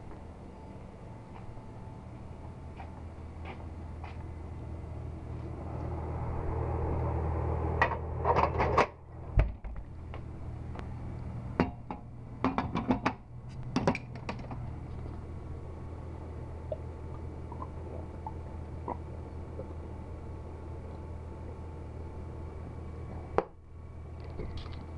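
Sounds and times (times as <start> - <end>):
electrical hum: 0.0 - 24.9.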